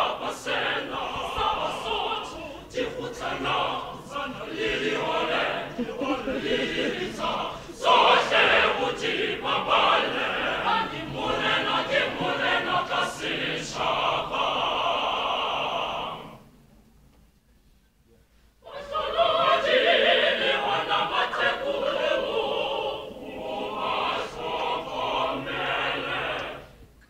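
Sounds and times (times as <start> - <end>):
mixed choir singing: 0.0 - 16.6, 18.6 - 26.9.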